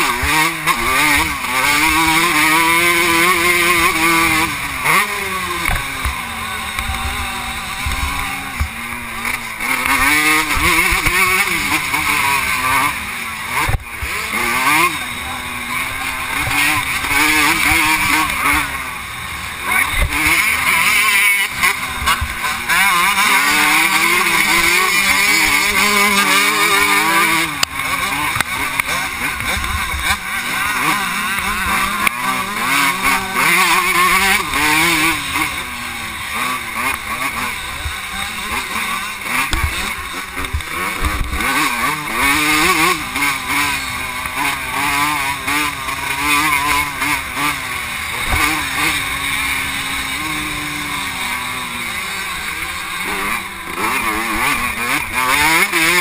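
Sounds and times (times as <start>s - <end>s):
motocross bike engine racing: 0.0s - 56.0s.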